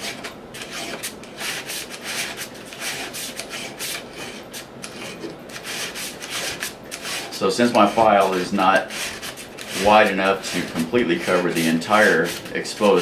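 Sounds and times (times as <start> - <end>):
file rasping on metal shaft: 0.0 - 13.0.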